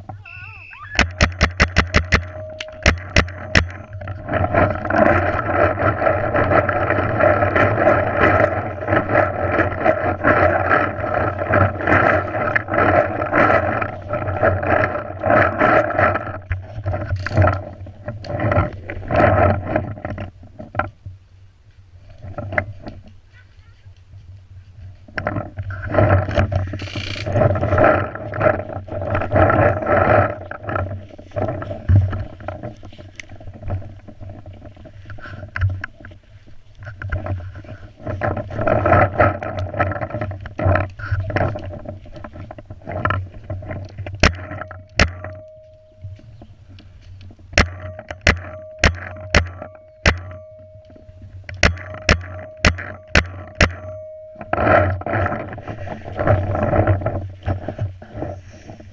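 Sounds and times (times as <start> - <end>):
gear rustling and clattering: 1.3 - 58.9.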